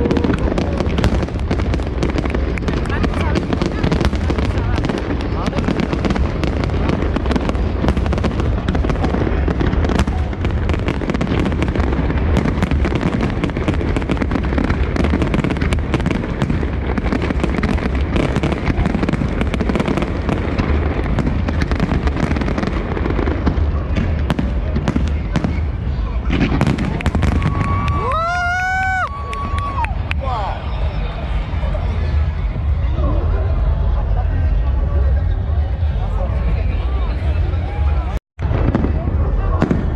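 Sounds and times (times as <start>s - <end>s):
low rumble of booms: 0.0s - 28.0s, 30.7s - 39.9s
fireworks bangs and crackling: 0.0s - 39.9s.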